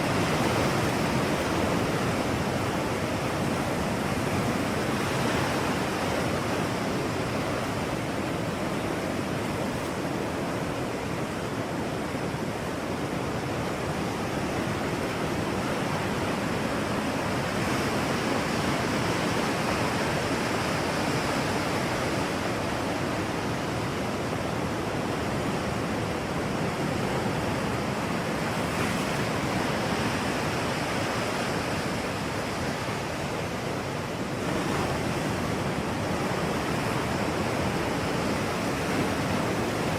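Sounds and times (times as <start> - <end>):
steady outdoor rushing noise: 0.0 - 39.9.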